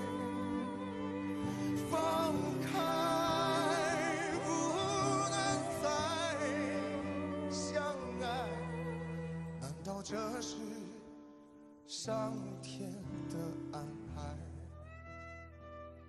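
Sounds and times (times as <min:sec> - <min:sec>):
ballad with vibrato melody: 0:00.0 - 0:16.0.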